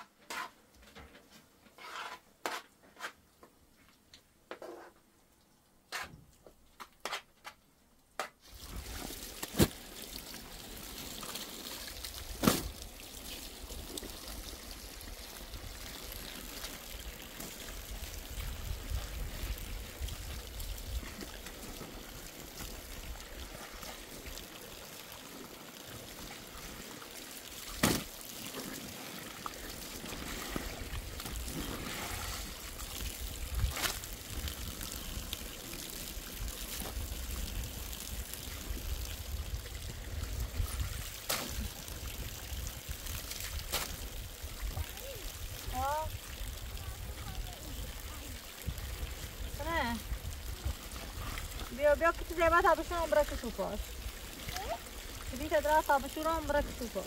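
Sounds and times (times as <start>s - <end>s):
water trickling and pouring: 8.4s - 57.0s.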